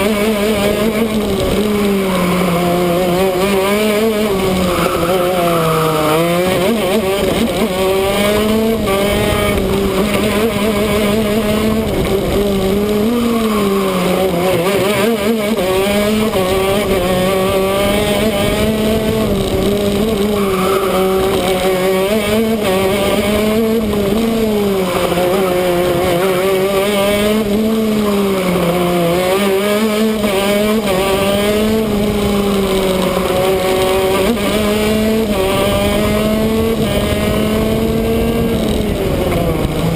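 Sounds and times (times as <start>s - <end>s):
kart engine running flat out: 0.0s - 39.9s
wind rushing over microphone: 0.0s - 39.9s.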